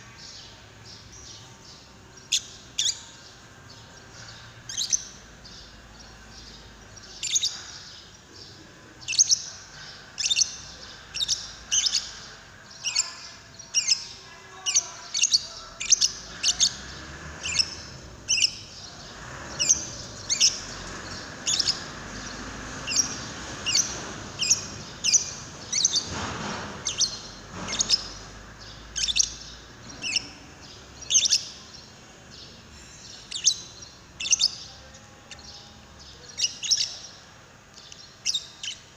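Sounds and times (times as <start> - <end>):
lovebird chirping: 0.1 - 38.9.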